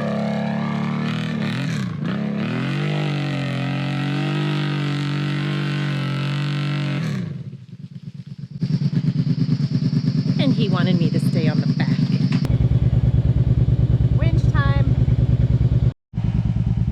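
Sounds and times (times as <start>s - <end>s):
atv engine under throttle: 0.0s - 16.9s.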